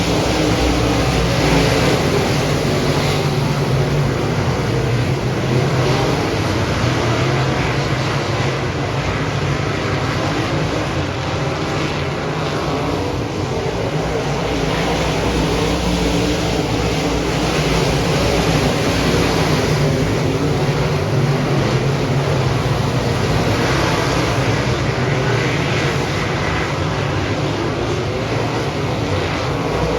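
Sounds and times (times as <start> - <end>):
race car engine droning: 0.0 - 29.9.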